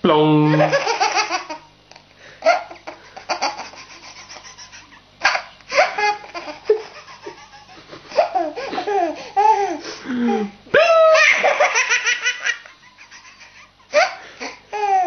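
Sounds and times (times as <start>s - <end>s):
baby giggling: 0.5s - 1.7s, 2.4s - 15.0s.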